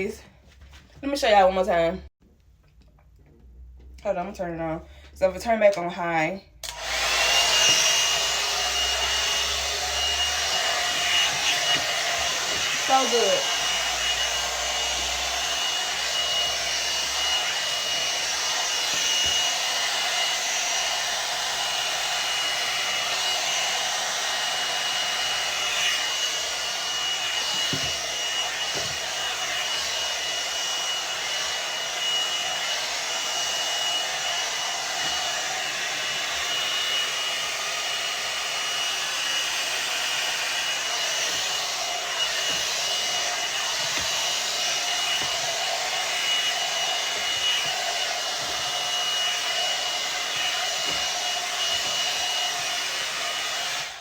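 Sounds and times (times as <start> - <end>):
hairdryer brush blowing air: 6.6 - 54.0.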